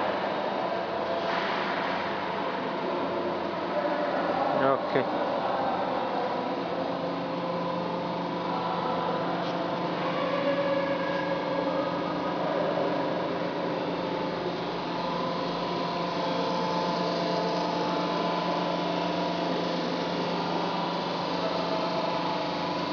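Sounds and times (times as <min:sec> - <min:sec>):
machine hum with held tones: 0:00.0 - 0:22.9.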